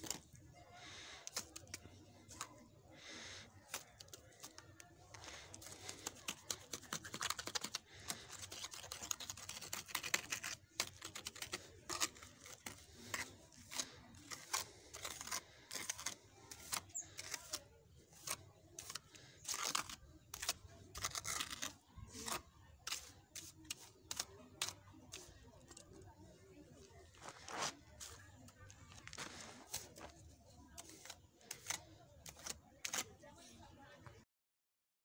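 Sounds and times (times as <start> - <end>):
trowel scraping wet mortar: 0.0 - 33.7.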